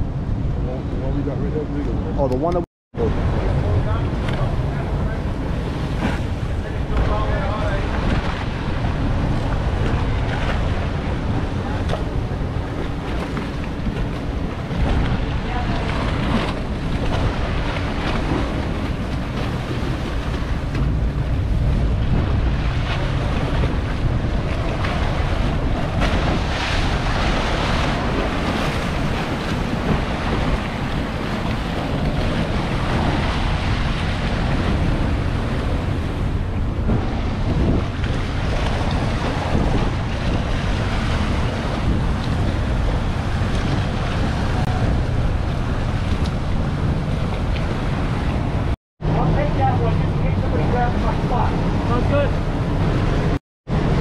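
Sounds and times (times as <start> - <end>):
boat engine running at low speed: 0.0 - 54.0
wind buffeting microphone: 0.0 - 54.0
propeller wash churning water: 2.4 - 54.0.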